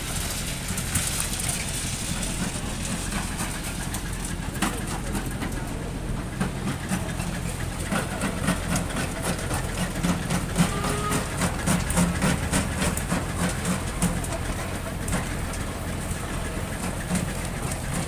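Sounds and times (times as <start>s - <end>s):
engine running with pulsing beat: 0.0s - 18.0s.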